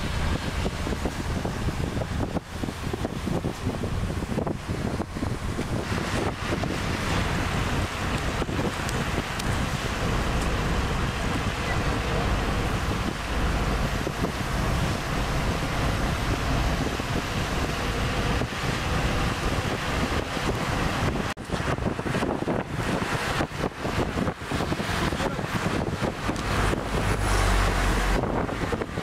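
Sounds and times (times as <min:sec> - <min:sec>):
vehicle road noise: 0:00.0 - 0:29.0
wind buffeting microphone: 0:00.0 - 0:29.0.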